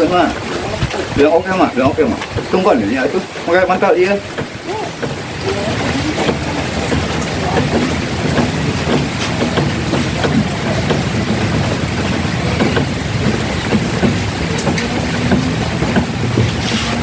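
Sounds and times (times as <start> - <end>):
raindrops ticking: 0.0 - 17.0
wind buffeting microphone: 0.0 - 17.0.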